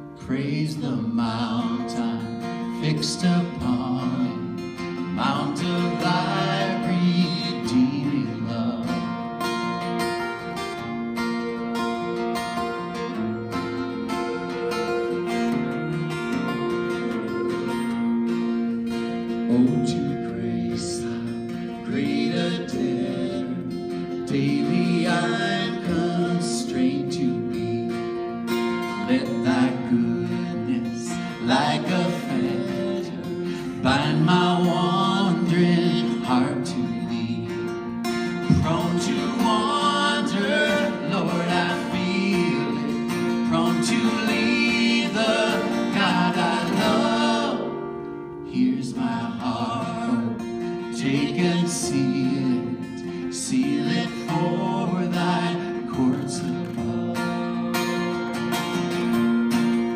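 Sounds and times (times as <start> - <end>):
acoustic guitars strummed: 0.0 - 59.9
men singing: 0.2 - 9.2, 14.0 - 18.4, 19.2 - 59.0.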